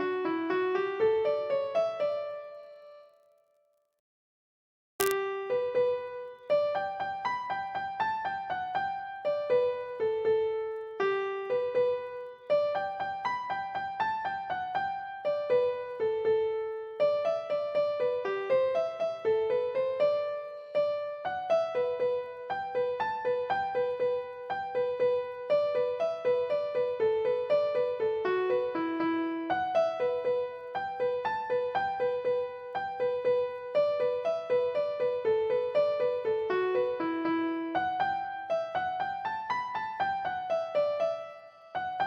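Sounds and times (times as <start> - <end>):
solo piano melody: 0.0 - 3.6, 5.0 - 42.0.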